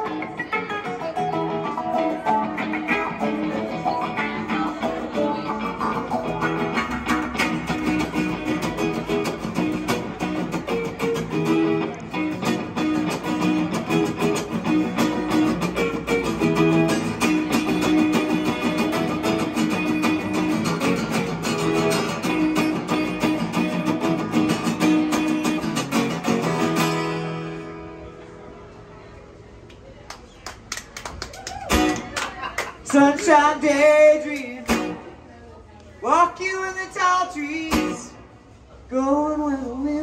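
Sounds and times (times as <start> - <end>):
acoustic guitar playing: 0.0 - 28.9, 31.7 - 32.2, 32.8 - 35.3, 36.0 - 40.0.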